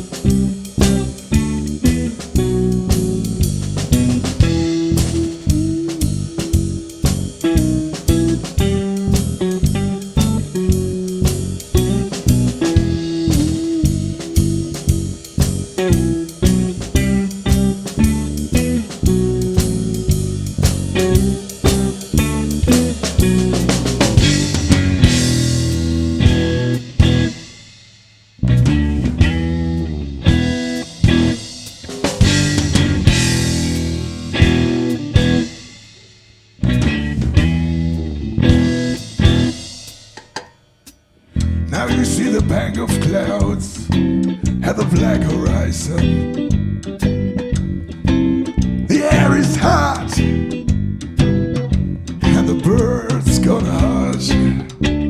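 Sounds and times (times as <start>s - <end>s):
electric guitar riff: 0.0s - 27.5s, 28.4s - 35.8s, 36.6s - 39.7s, 41.3s - 55.0s
bass guitar: 0.0s - 27.8s, 28.4s - 39.9s, 41.3s - 55.0s
drum kit: 0.0s - 55.0s.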